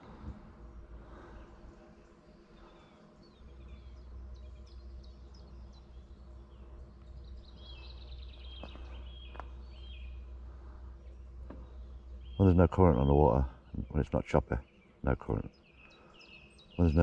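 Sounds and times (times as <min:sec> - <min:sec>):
steady low rumble: 0:00.0 - 0:15.2
songbirds chirping and trilling: 0:00.0 - 0:17.0.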